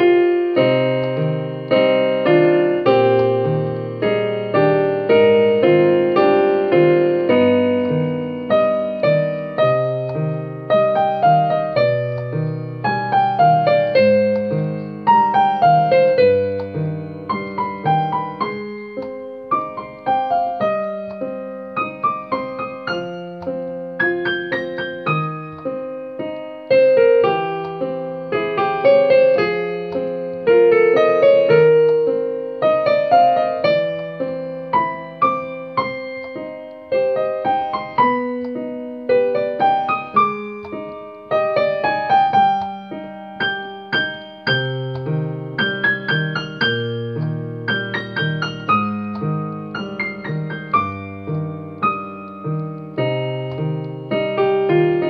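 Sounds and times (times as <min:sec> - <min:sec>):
solo piano melody: 0:00.0 - 0:55.0.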